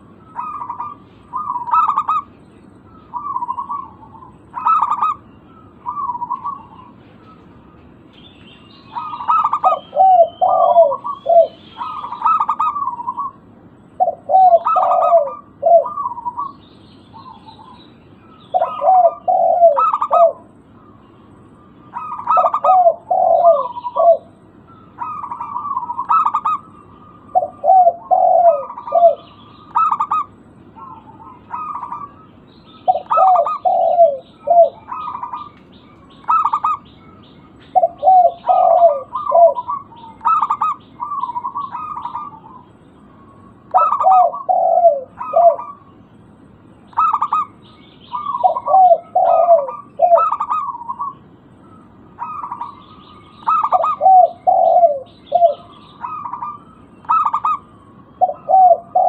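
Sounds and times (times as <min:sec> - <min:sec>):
doves cooing: 0:00.0 - 0:08.0, 0:08.6 - 0:59.0
faint small birds chirping: 0:00.0 - 0:59.0.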